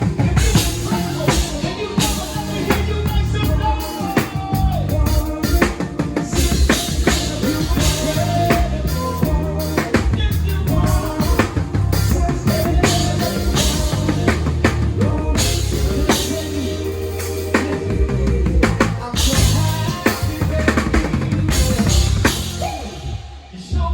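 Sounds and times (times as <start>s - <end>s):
bass line: 0.0s - 23.9s.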